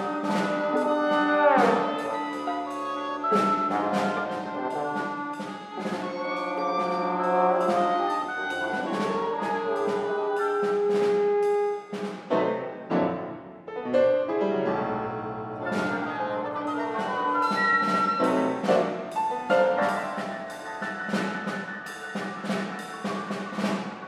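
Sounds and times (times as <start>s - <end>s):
contemporary classical ensemble music: 0.0s - 24.0s.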